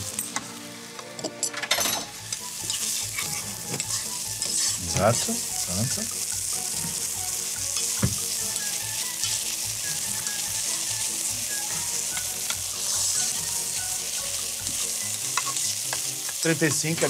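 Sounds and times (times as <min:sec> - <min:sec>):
grain sizzling in a pot: 0:00.0 - 0:01.2, 0:01.8 - 0:17.0.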